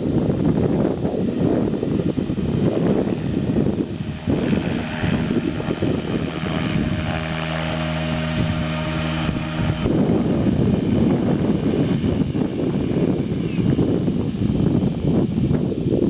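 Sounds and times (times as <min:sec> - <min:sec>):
wind buffeting microphone: 0:00.0 - 0:16.0
rc helicopter motor and rotors: 0:00.2 - 0:16.0.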